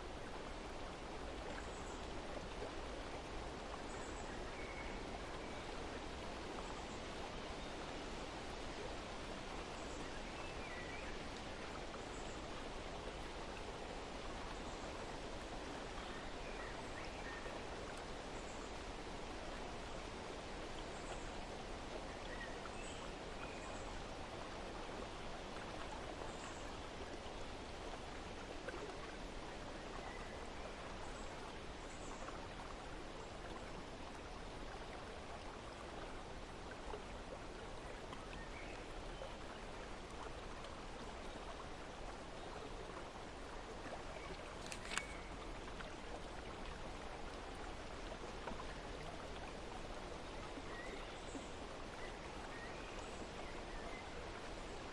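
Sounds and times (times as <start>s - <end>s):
flowing water rushing: 0.0s - 54.9s.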